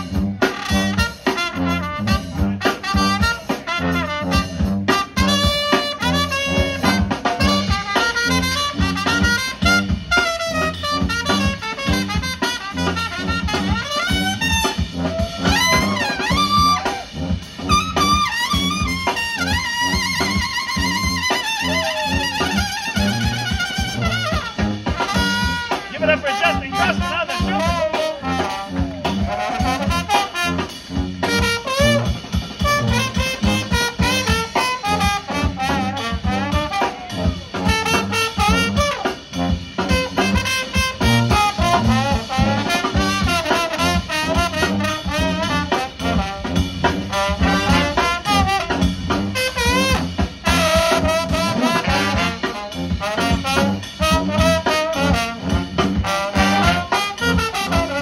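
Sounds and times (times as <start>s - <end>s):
brass band playing: 0.0s - 58.0s
drum kit beat: 0.0s - 58.0s.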